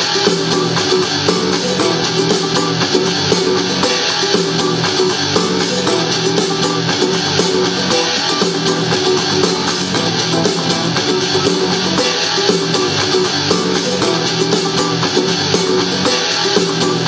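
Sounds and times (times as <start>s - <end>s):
guitar music through a speaker: 0.0s - 17.0s.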